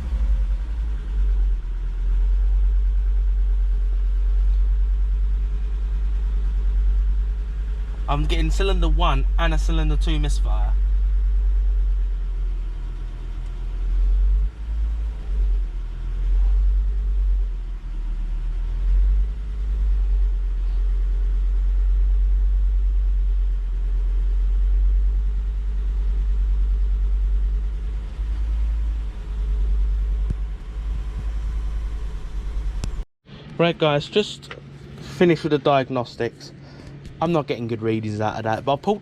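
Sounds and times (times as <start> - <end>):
misfiring car engine rumbling: 0.0 - 39.0.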